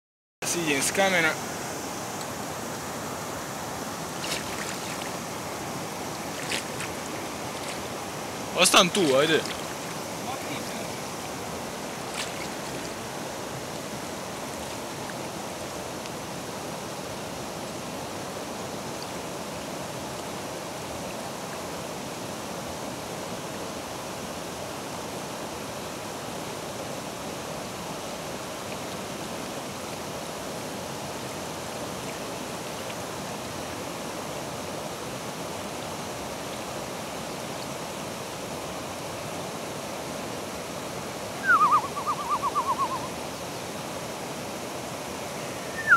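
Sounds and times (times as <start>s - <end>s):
river rushing over rocks: 0.4s - 45.9s.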